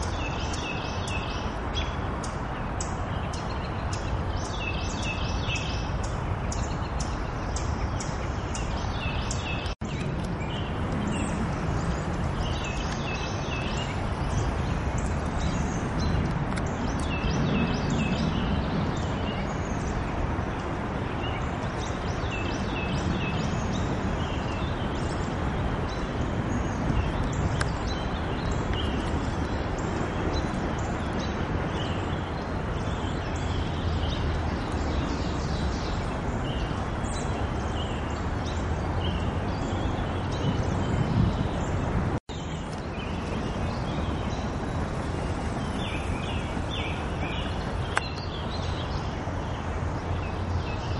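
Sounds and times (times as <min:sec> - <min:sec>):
small songbirds chirping: 0:00.0 - 0:50.9.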